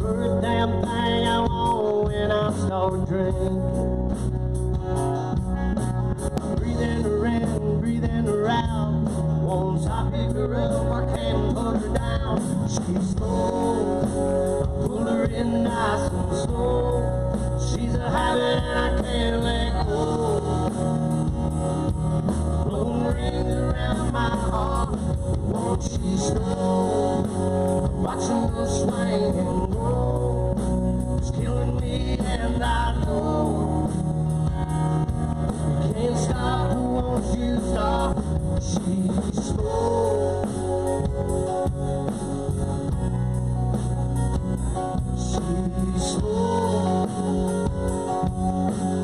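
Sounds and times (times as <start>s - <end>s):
electric guitar: 0.0s - 49.0s
live band music: 0.0s - 49.0s
steady bass: 0.0s - 49.0s.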